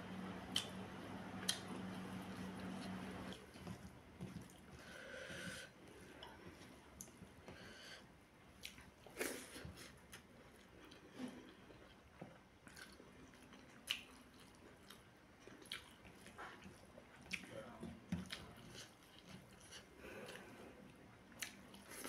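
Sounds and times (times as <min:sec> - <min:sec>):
chewing and wet mouth sounds: 0:00.4 - 0:07.6, 0:08.5 - 0:22.0.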